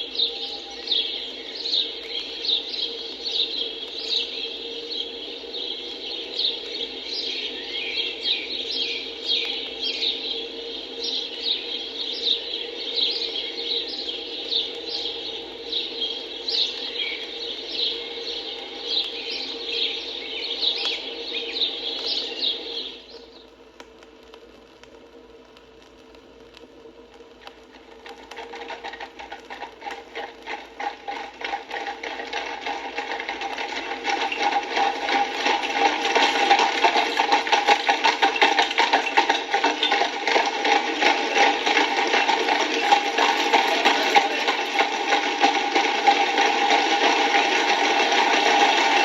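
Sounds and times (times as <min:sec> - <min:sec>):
horse hooves clattering on road: 0:00.0 - 0:23.2, 0:26.8 - 0:49.0.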